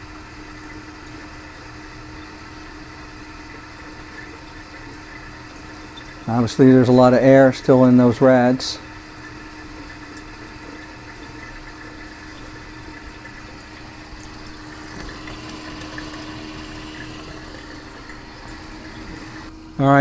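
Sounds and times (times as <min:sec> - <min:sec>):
water pump humming: 0:00.0 - 0:20.0.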